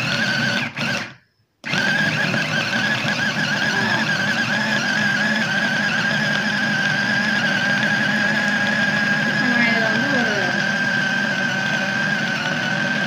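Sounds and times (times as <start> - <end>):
electric chopper motor whining: 0.0 - 13.0.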